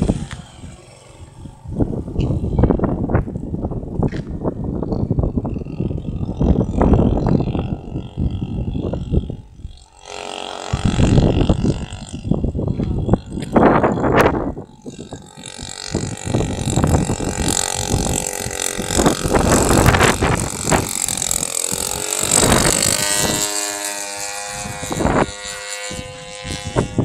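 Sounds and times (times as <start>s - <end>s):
model airplane engine running: 0.0s - 27.0s.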